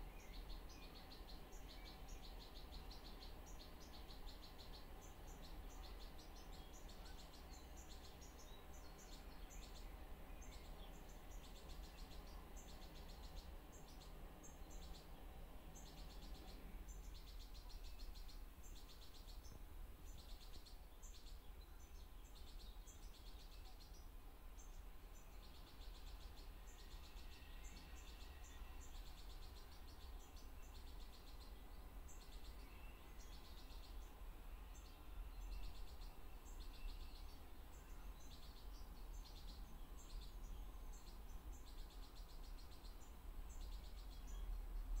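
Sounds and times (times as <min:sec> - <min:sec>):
faint low rumble: 0:00.0 - 0:45.0.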